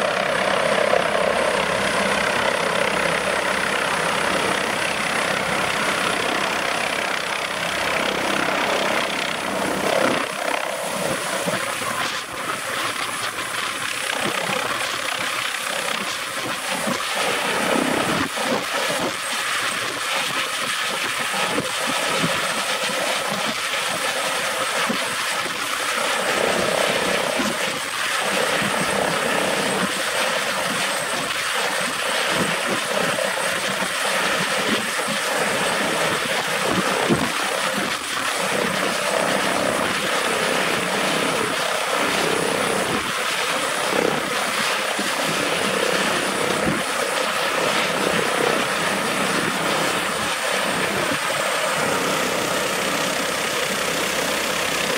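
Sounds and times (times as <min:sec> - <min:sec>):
helicopter turbine whine and rotors: 0:00.0 - 0:54.9.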